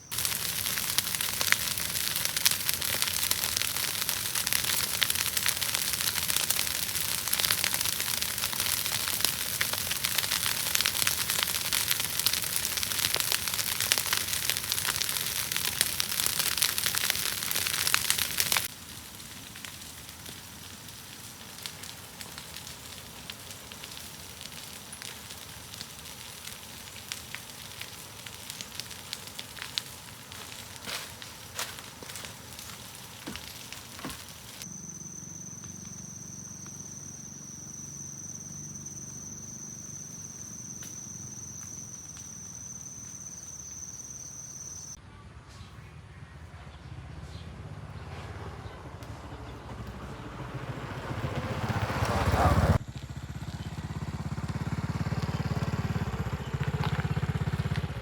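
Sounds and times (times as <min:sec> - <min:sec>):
crackling and sizzling: 0:00.0 - 0:45.0, 0:51.6 - 0:58.0.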